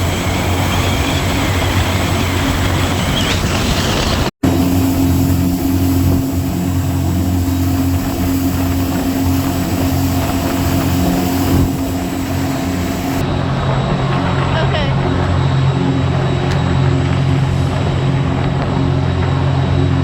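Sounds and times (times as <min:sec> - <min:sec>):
boat engine running: 0:00.0 - 0:20.0
water noise: 0:00.0 - 0:20.0
wind noise: 0:00.0 - 0:20.0.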